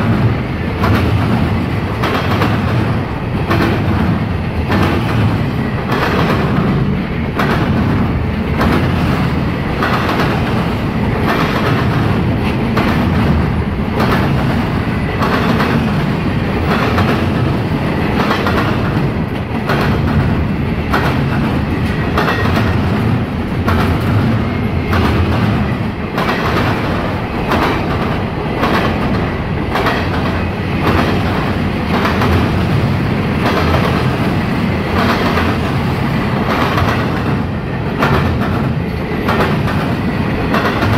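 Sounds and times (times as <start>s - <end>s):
freight train rumble: 0.0s - 40.9s
steel wheels clacking on rails: 0.0s - 40.9s.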